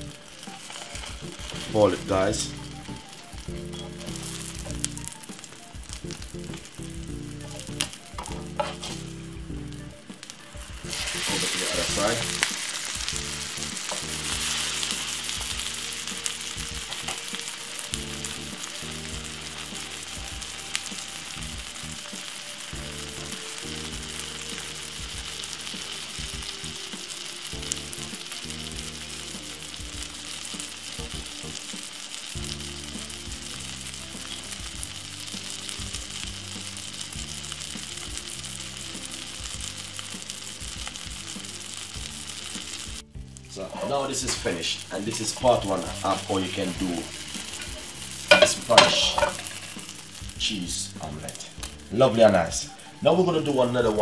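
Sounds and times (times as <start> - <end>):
low background music: 0.0 - 54.0
omelette sizzling in oil: 0.0 - 54.0.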